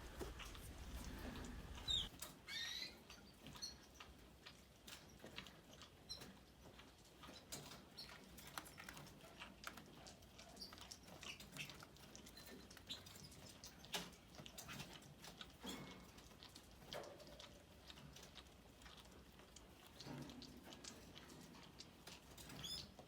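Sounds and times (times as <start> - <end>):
baby birds pecking food: 0.0 - 23.0.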